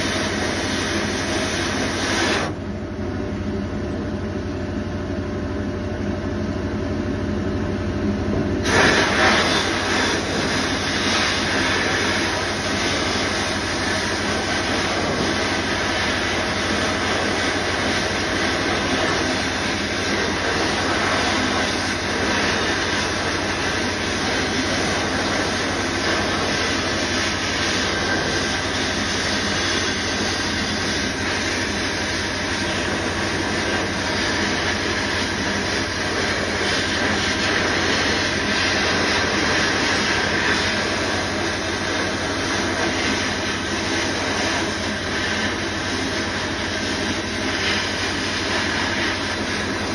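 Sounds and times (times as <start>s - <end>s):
hiss of sandblasting nozzle: 0.0s - 2.6s, 8.6s - 49.9s.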